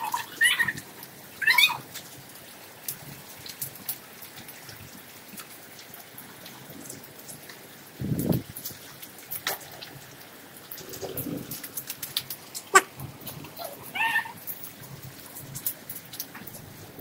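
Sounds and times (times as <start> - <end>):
rain falling: 0.0 - 17.0
raindrops ticking: 0.0 - 17.0.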